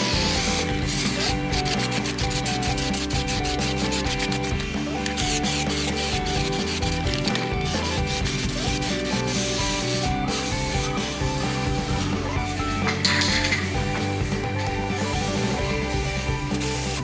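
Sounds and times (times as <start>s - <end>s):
background music with stepping melody: 0.0s - 17.0s
fast rubbing strokes: 0.0s - 17.0s.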